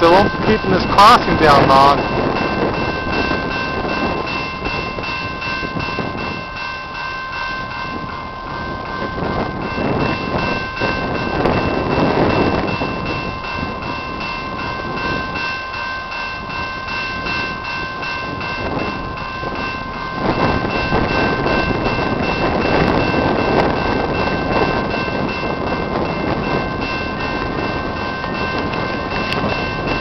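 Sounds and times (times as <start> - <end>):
crossing bell ringing: 0.0 - 30.0
diesel locomotive rumble: 0.0 - 30.0.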